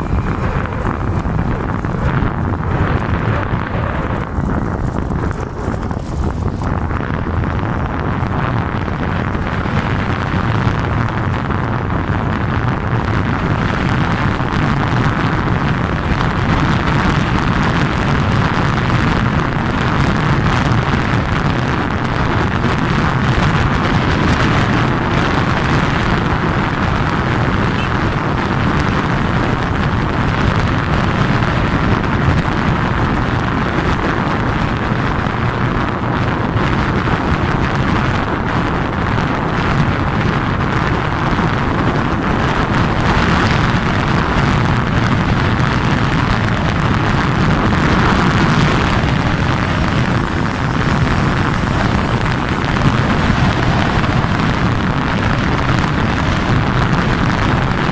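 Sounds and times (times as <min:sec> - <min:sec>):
road and vehicle noise: 0:00.0 - 0:57.9
wind rush on microphone: 0:00.0 - 0:57.9.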